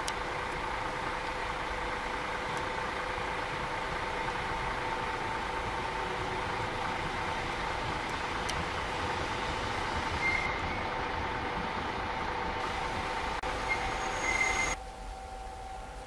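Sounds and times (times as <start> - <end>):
train rumbling: 0.0 - 16.0
high train squeal: 3.1 - 16.0.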